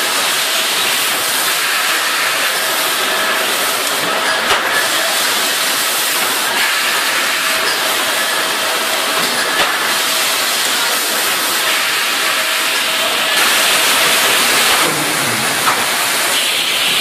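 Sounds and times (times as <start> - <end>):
conveyor machine noise: 0.0 - 17.0.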